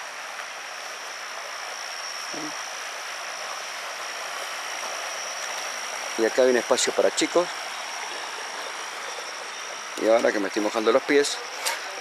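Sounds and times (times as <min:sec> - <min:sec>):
constant high-pitched tone: 0:00.0 - 0:12.0
water spout splashing into pool: 0:00.0 - 0:12.0.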